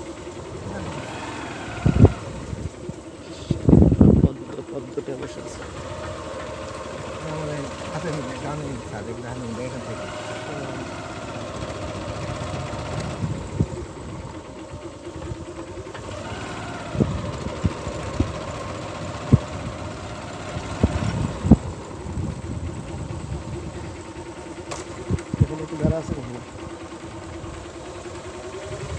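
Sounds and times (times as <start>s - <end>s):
small engine running: 0.0s - 28.9s.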